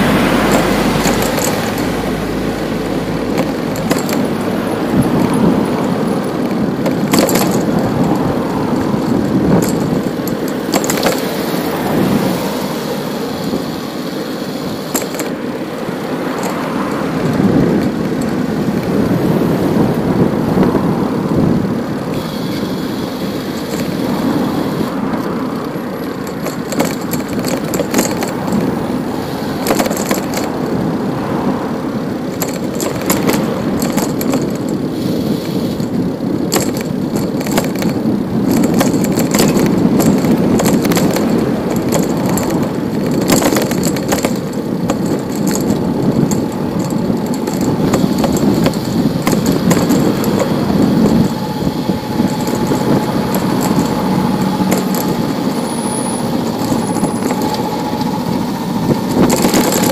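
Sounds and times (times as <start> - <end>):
bicycle clicks and rattles: 0.0 - 59.9
motor traffic: 0.0 - 59.9
road and wind noise: 0.0 - 59.9.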